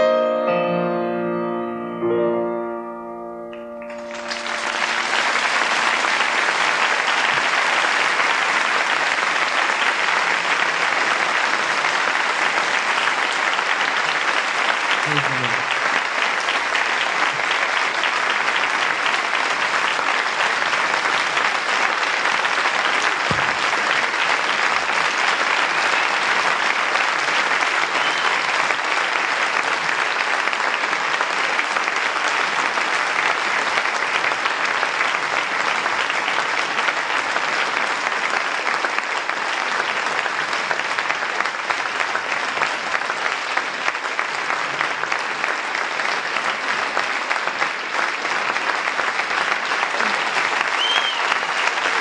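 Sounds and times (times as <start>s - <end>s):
audience applauding: 3.5s - 52.0s.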